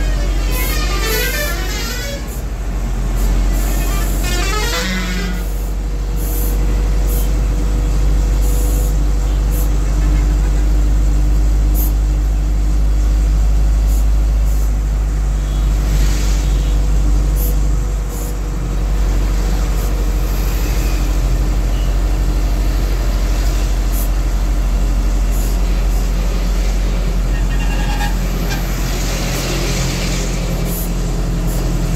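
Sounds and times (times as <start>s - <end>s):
diesel engine low drone: 0.0s - 31.9s
passing traffic: 0.0s - 31.9s
road noise: 0.0s - 31.9s.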